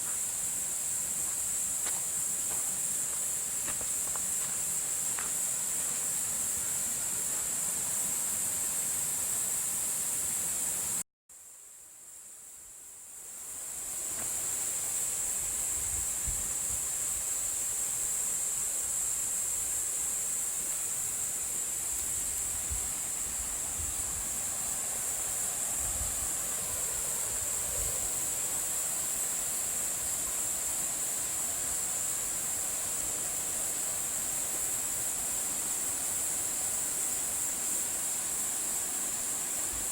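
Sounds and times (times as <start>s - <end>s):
faint hiss: 0.0s - 39.9s
high-pitched insect chorus: 0.0s - 39.9s.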